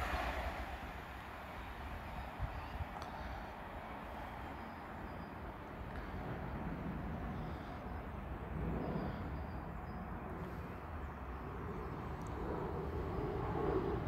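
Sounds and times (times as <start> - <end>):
distant locomotive rumble: 0.0 - 14.0.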